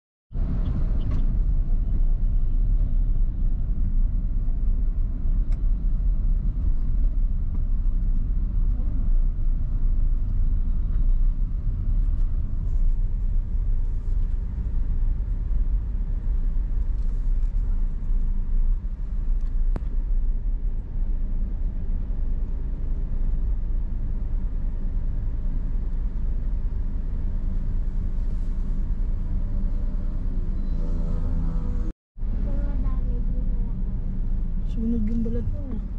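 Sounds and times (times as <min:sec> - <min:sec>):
motor vehicle engine rumble: 0:00.3 - 0:35.9
road noise: 0:00.3 - 0:35.9.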